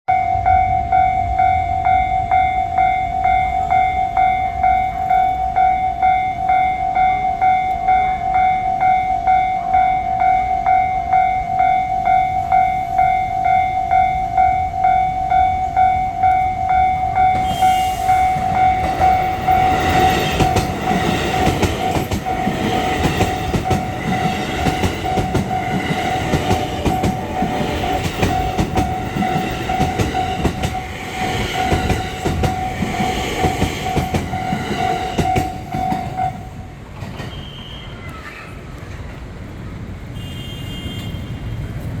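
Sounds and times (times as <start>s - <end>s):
level crossing warning bell: 0.1s - 36.9s.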